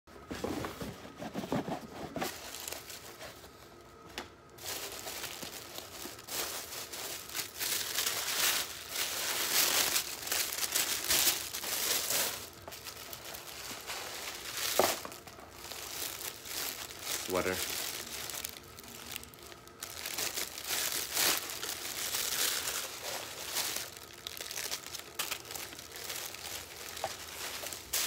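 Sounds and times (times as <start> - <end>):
paper crinkling and rustling: 0.2 - 28.0.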